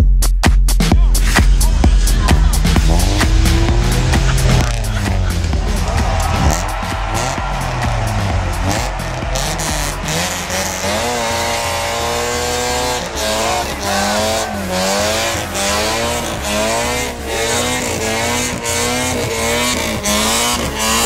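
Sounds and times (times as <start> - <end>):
tyres squealing: 1.2 - 21.0.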